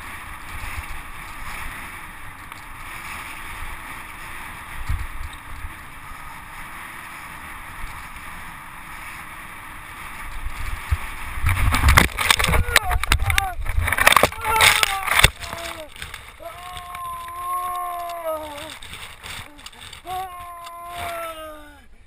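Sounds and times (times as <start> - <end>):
bike rumbling and knocking: 0.0 - 21.6
wind rushing over microphone: 0.0 - 21.6.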